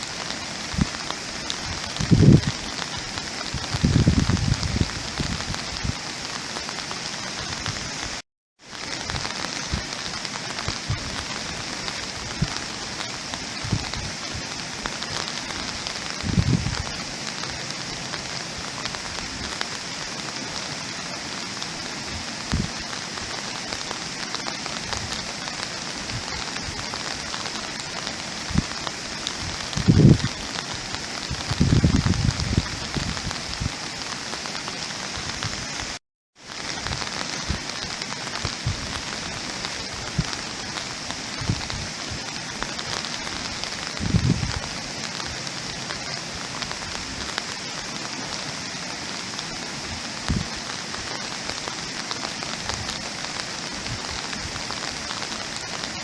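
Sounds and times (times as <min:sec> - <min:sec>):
raindrops thumping close by: 0:00.0 - 0:56.0
steady rain falling: 0:00.0 - 0:56.0.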